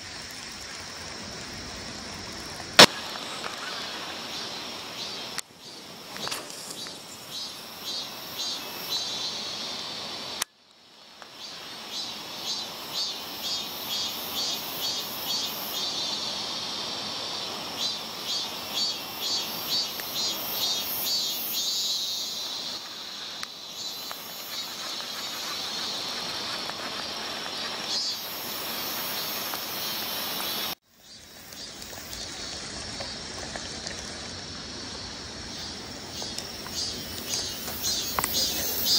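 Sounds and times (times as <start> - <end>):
insects chirring in chorus: 0.0 - 38.9.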